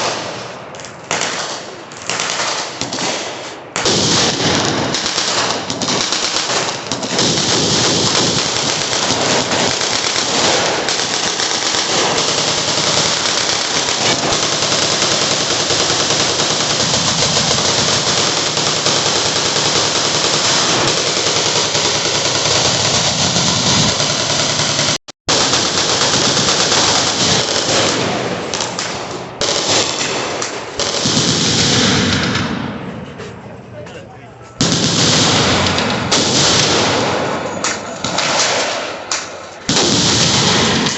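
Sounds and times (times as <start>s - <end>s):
machine guns firing: 0.0s - 33.0s, 34.6s - 40.9s.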